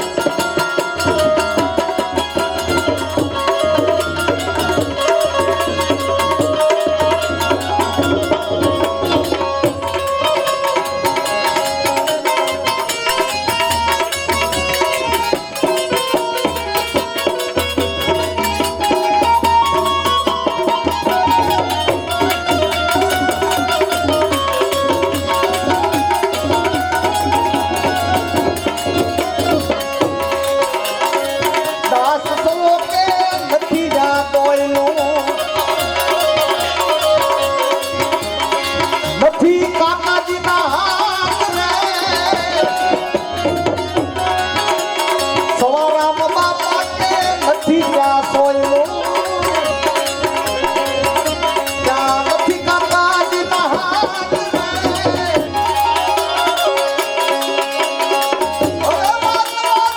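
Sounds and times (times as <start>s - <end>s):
tabla rhythm: 0.0s - 59.9s.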